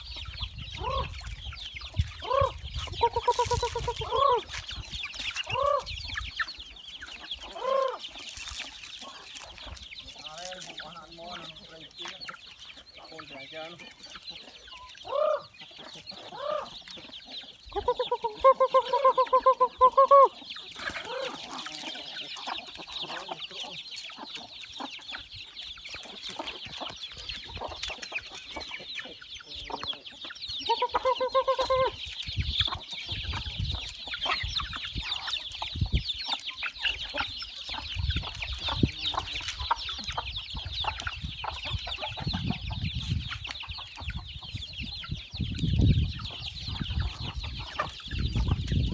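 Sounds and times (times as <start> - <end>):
loud pulsed chicken calls: 0.0 - 10.0, 12.3 - 48.9
chickens clucking: 0.0 - 48.9.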